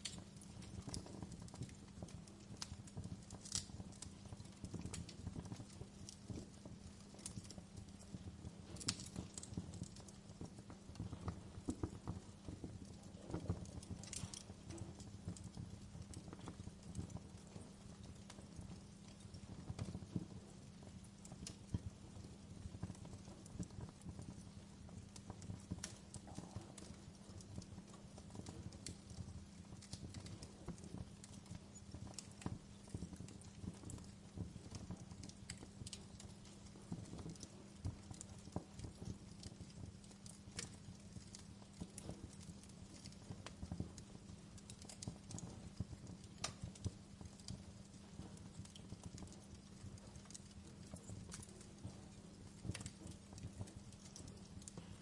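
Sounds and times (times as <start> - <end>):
faint steady low hum: 0.0 - 55.0
low rumble of flames: 0.0 - 55.0
wood fire crackling: 0.0 - 55.0.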